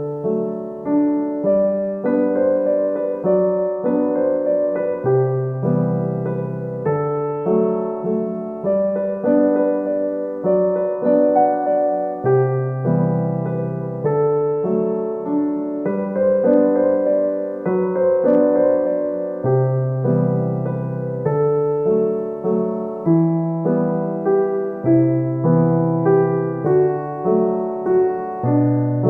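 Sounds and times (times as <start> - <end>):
soft electric piano melody: 0.0 - 29.0.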